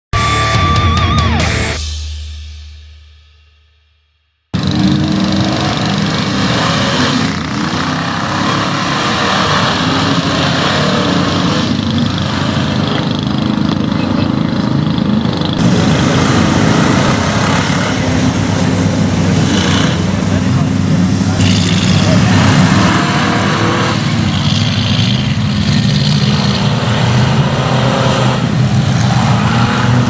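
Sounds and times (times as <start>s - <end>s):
truck engine revving: 4.5s - 30.0s.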